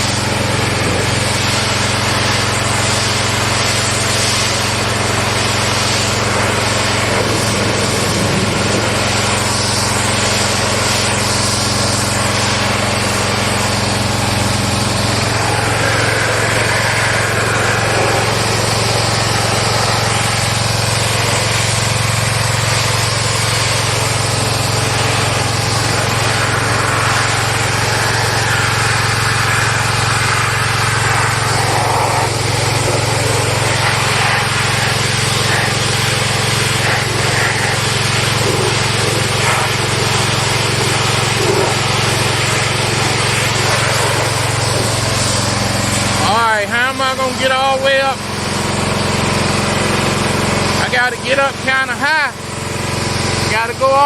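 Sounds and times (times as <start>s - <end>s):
water spray hissing: 0.0s - 53.6s
small gasoline engine running: 0.0s - 54.0s.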